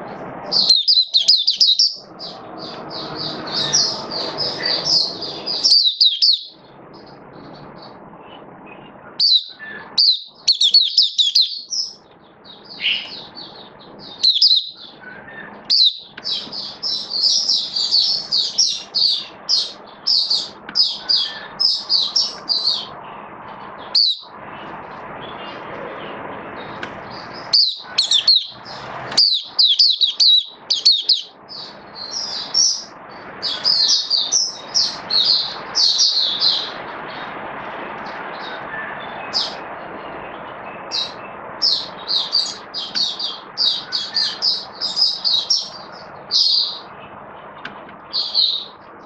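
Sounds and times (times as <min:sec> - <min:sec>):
bird twittering chirps: 0:00.4 - 0:37.3, 0:38.0 - 0:49.0.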